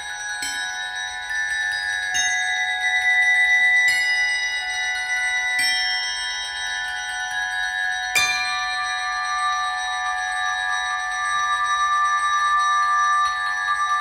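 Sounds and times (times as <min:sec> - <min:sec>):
ringing metallic bell tones: 0:00.0 - 0:14.0.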